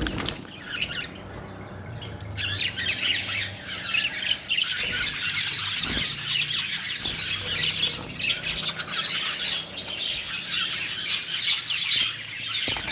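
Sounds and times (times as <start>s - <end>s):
lovebirds squawking and chirping: 0.0s - 12.9s.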